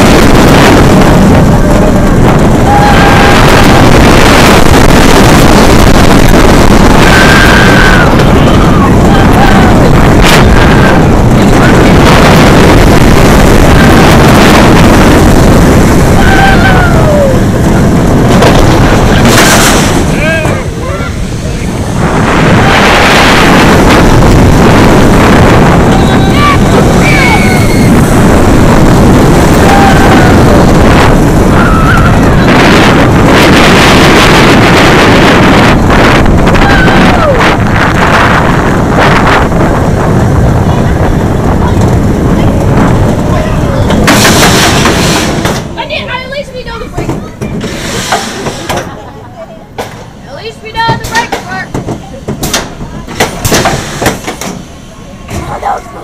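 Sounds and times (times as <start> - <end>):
wind blast on microphone: 0.0 - 49.0, 49.7 - 56.0
roller coaster train rumbling: 0.0 - 56.0.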